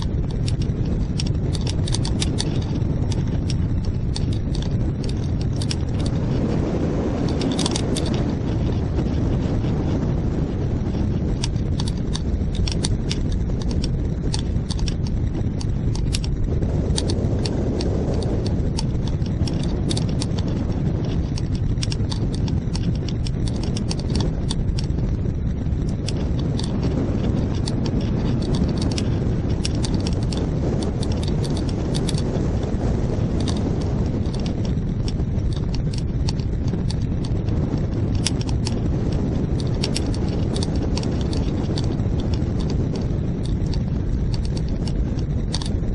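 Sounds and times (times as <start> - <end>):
sharp clicks: 0.0 - 6.6, 7.2 - 10.0, 10.7 - 45.9
strong wind buffeting microphone: 0.0 - 45.9.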